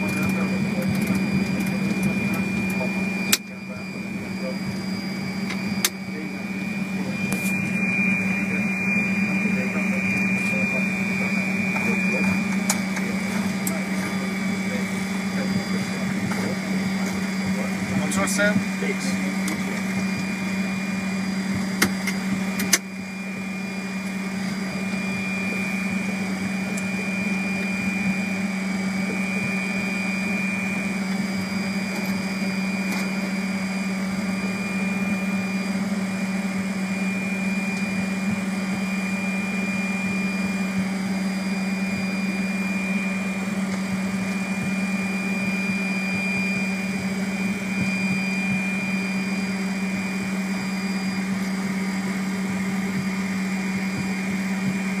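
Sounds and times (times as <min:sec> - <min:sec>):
aircraft cockpit hum: 0:00.0 - 0:55.0
high steady whine: 0:00.0 - 0:55.0.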